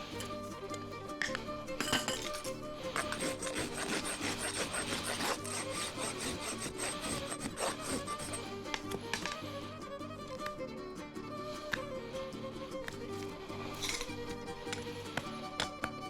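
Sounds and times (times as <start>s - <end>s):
background music: 0.0s - 16.0s
rasp filing a hoof: 2.0s - 10.5s, 11.5s - 16.0s.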